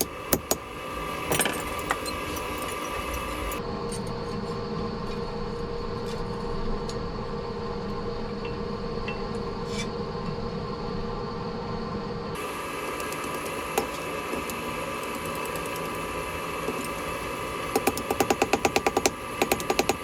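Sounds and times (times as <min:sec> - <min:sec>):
shop machinery roar: 0:00.0 - 0:20.0.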